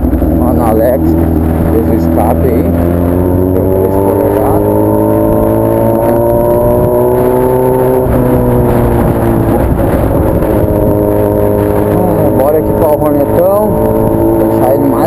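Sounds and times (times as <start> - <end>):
motorcycle engine running loud: 0.0 - 15.0.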